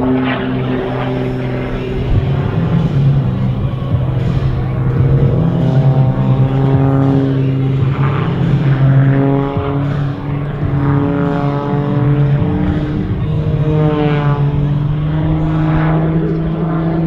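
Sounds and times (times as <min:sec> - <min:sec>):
propeller plane engine at high power: 0:00.0 - 0:17.0.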